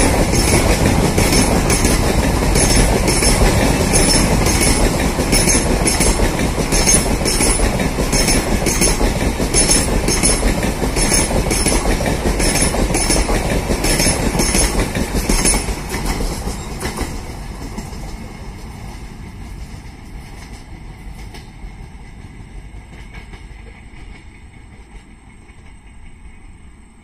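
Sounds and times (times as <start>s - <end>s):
train wheels clicking: 0.0s - 26.9s
train rumbling past: 0.0s - 27.0s.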